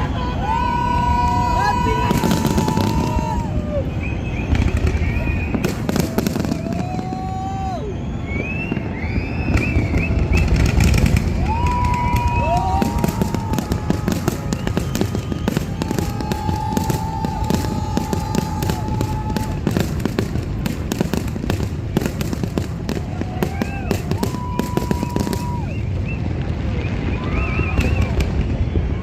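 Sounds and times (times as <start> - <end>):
fireworks bursting and crackling: 0.0 - 29.0
fireworks whistling: 0.0 - 29.0.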